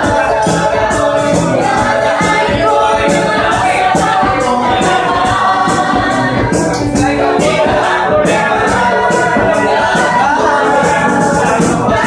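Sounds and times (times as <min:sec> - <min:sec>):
group singing together: 0:00.0 - 0:12.0
music with steady beat: 0:00.0 - 0:12.0.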